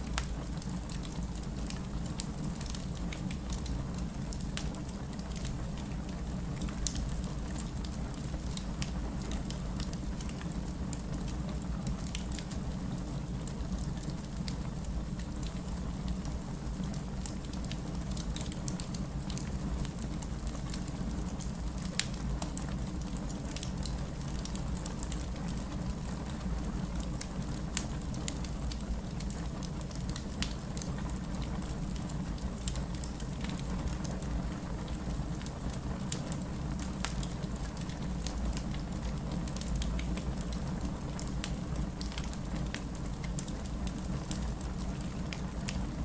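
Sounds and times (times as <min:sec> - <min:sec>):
wood crackling and popping: 0:00.0 - 0:46.0.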